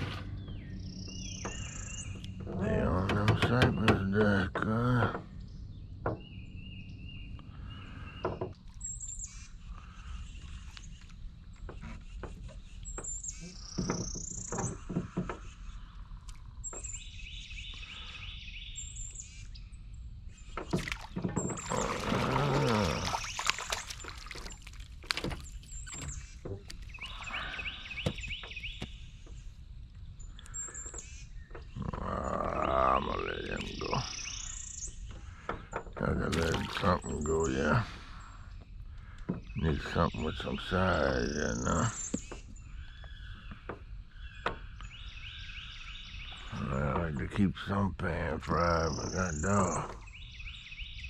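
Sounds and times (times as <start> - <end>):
birds high chirps: 0.0 - 51.0.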